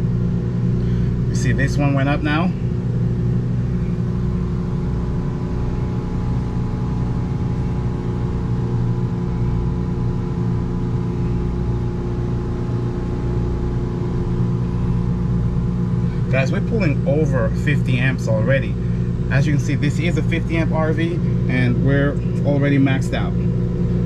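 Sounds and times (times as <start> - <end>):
generator and appliances humming: 0.0 - 24.0.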